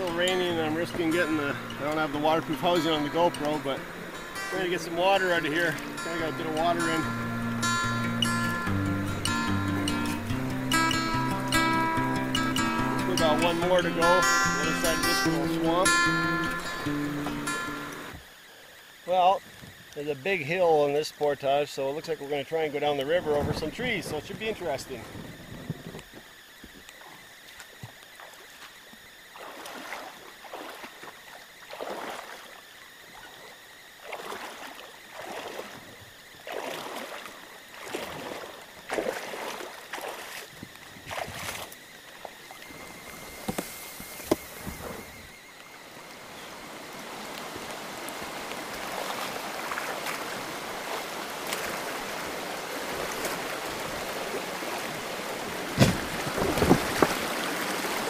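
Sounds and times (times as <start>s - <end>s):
paddle strokes splashing: 0.0s - 18.4s, 26.2s - 58.0s
rushing water: 0.0s - 19.2s, 26.9s - 58.0s.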